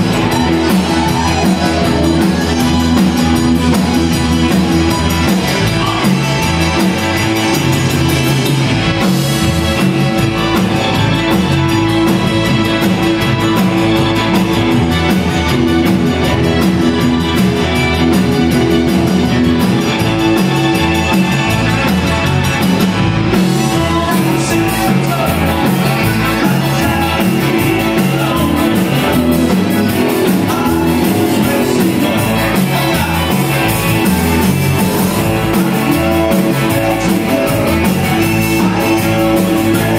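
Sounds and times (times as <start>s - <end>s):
drum kit: 0.0s - 39.9s
electric guitars: 0.0s - 39.9s
keyboard: 0.0s - 39.9s.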